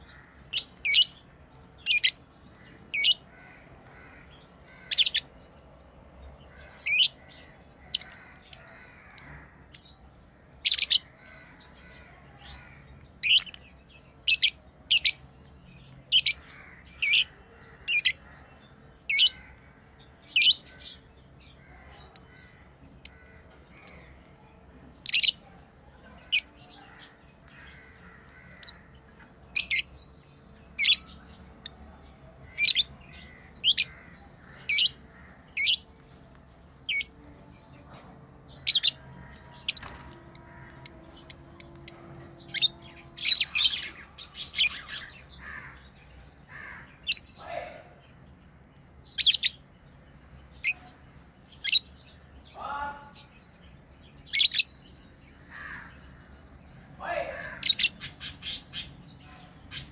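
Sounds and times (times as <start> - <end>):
lovebirds chirping: 0.0 - 59.9
soft bird chatter: 0.0 - 59.9.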